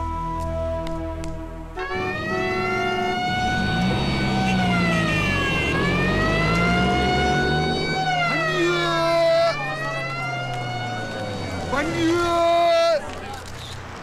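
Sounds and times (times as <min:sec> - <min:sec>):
held music chord: 0:00.0 - 0:12.0
vehicles driving: 0:00.0 - 0:14.0
police siren wailing: 0:01.8 - 0:13.1.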